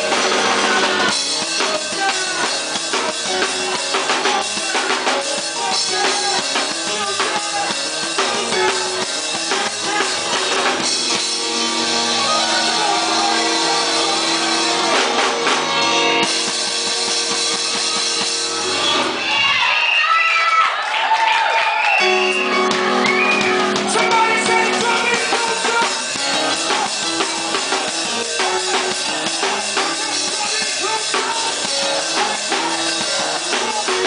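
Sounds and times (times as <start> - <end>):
held chords: 0.0 - 19.2, 22.0 - 34.0
drum kit with band: 0.0 - 34.0.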